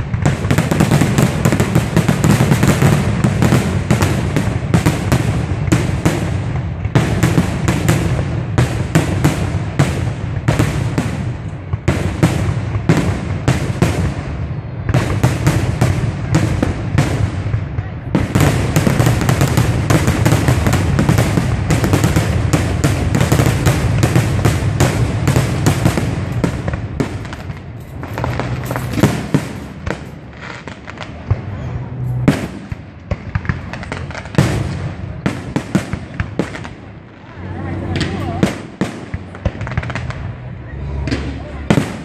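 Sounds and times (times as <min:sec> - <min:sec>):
fireworks exploding: 0:00.0 - 0:42.0.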